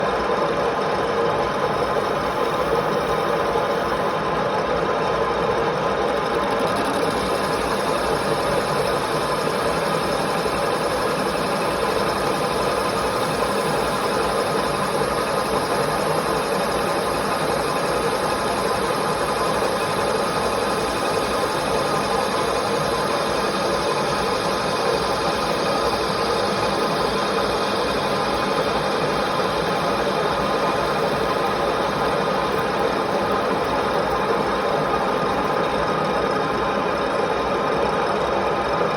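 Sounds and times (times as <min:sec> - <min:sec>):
lathe running: 0:00.2 - 0:38.9.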